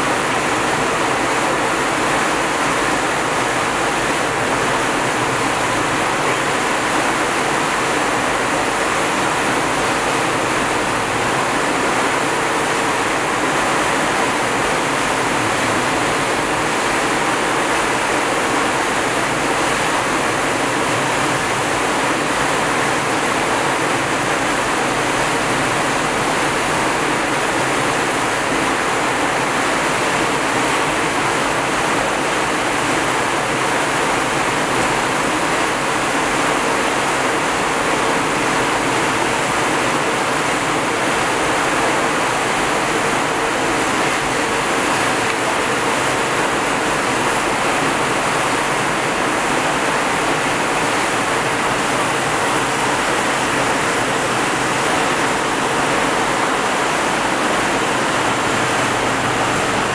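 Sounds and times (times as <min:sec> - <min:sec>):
rushing water: 0:00.0 - 0:59.9
wind: 0:00.0 - 0:59.9.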